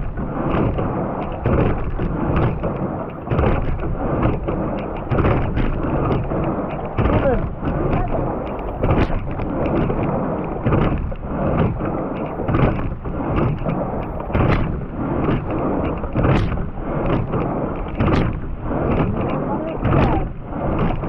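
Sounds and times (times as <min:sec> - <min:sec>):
water rushing past hull: 0:00.0 - 0:21.0
wind on microphone: 0:00.0 - 0:21.0
oar knocking in oarlock: 0:00.4 - 0:21.0.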